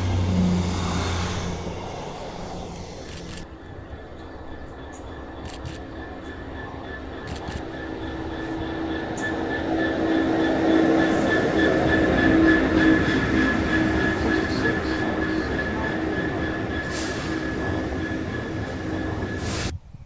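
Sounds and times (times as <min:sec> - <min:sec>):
high-pitched train whine: 0:00.0 - 0:19.8
train rumbling on rails: 0:00.0 - 0:19.9.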